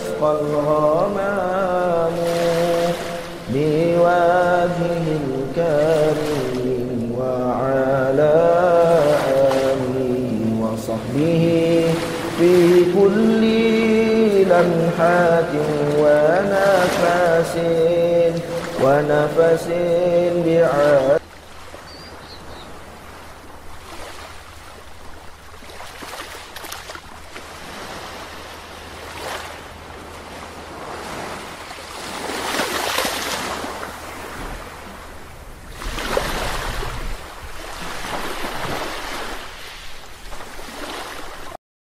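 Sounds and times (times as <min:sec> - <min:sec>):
ocean surf washing: 0:00.0 - 0:41.6.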